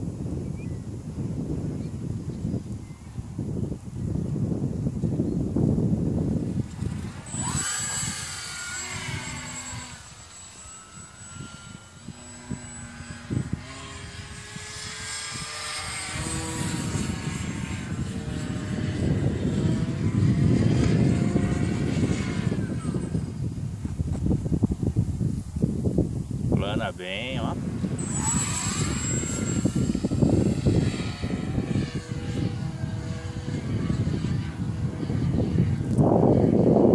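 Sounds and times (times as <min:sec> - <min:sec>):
wind buffeting microphone: 0:00.0 - 0:36.9
model airplane motor whining: 0:00.1 - 0:36.9.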